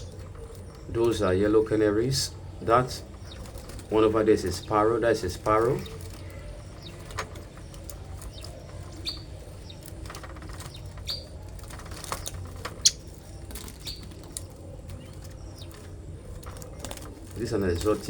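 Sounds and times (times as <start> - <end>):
low steady hum: 0.0 - 18.0
small birds chirping: 0.0 - 18.0
wings fluttering: 0.0 - 18.0.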